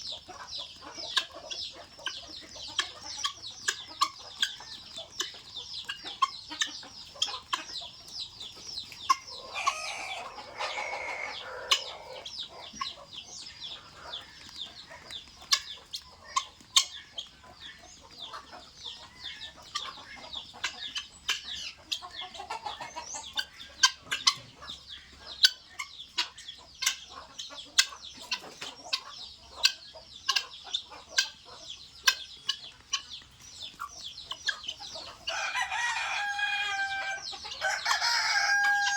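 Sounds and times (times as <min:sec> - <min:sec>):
guinea fowl chirping calls: 0:00.0 - 0:38.9.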